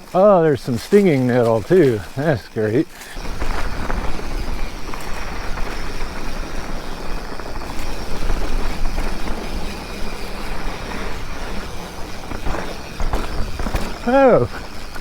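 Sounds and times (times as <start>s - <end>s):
bike rattling: 0.0s - 15.0s
bike tyres rumbling on dirt: 0.0s - 15.0s.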